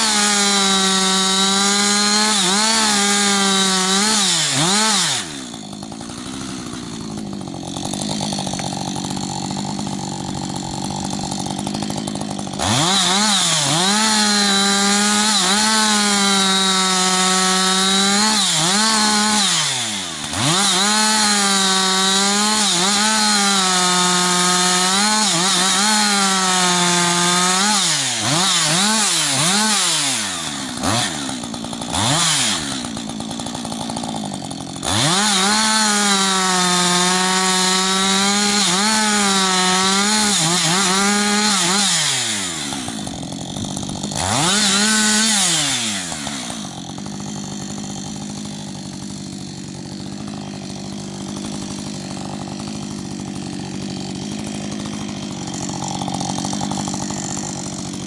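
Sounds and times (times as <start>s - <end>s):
chainsaw cutting logs: 0.0s - 58.0s.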